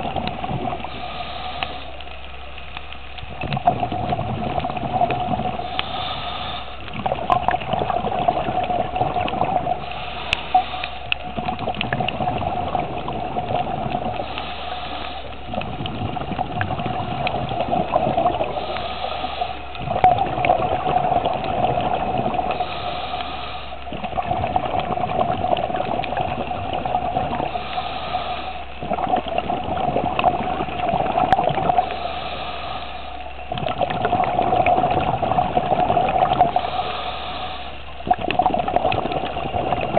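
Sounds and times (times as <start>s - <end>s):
diver inhaling through regulator: 0.0s - 2.2s, 3.5s - 20.0s, 20.9s - 26.4s, 27.0s - 39.9s
bubbling and gurgling exhaust: 0.0s - 39.9s
steady hum: 0.0s - 39.9s.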